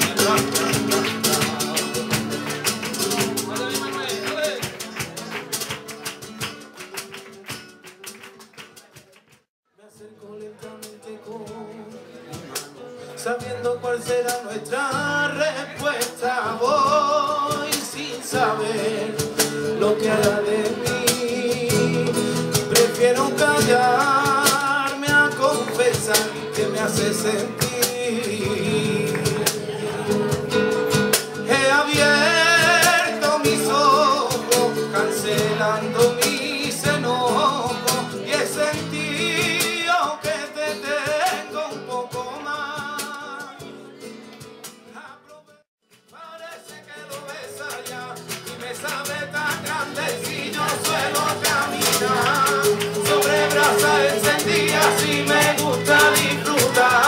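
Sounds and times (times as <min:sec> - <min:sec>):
man singing: 0:00.0 - 0:05.3, 0:09.7 - 0:57.0
acoustic guitar strumming: 0:00.0 - 0:08.9, 0:09.9 - 0:57.0.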